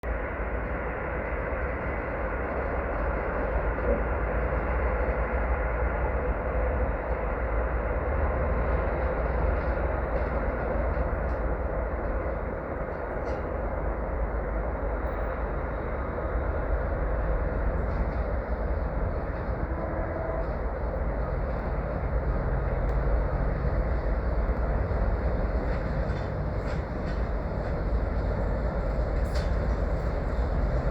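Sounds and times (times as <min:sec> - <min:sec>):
diesel locomotive rumbling: 0:00.0 - 0:30.9.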